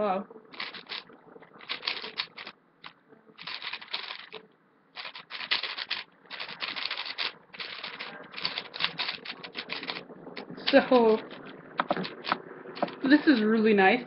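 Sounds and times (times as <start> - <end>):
speed cube clicking and clattering: 0.5 - 13.4.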